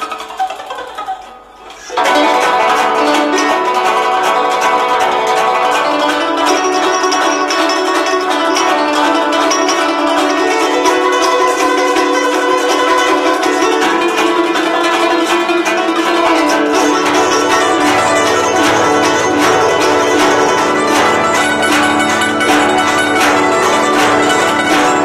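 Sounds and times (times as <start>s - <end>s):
plucked zither played fast: 0.0s - 25.0s.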